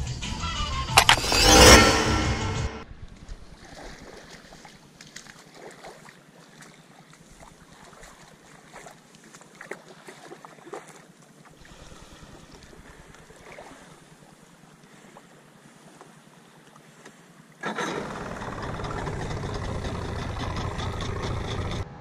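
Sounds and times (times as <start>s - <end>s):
water lapping around boat: 3.1s - 21.9s.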